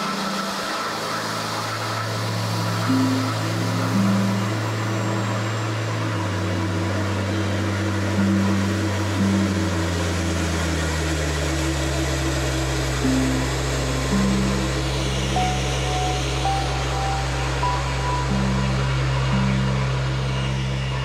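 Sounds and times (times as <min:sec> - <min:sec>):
steady rushing hiss: 0:00.0 - 0:21.0
synthesizer music with bass line: 0:00.0 - 0:21.0.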